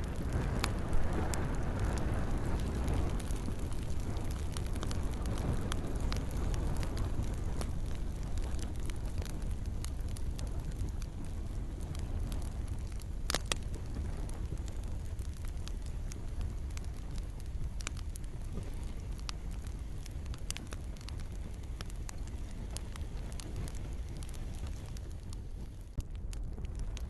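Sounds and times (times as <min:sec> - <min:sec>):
campfire crackling and popping: 0:00.0 - 0:27.0
gentle rain: 0:00.0 - 0:27.0.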